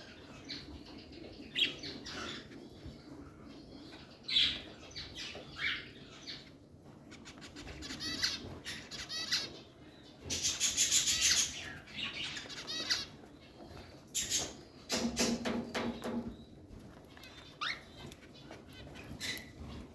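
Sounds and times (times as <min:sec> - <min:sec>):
parrots chirping and chattering: 0:00.0 - 0:19.9.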